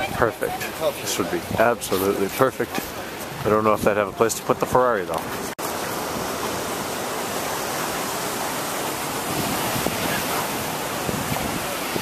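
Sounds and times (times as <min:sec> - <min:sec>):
ocean surf on rocky shore: 0:00.0 - 0:12.0.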